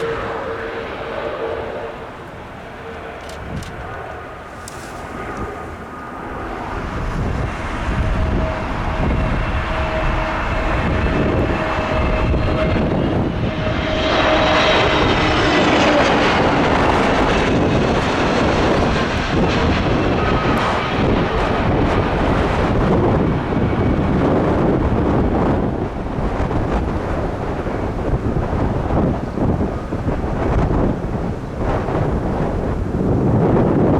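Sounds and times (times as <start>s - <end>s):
jet airliner passing low: 0.0s - 33.9s.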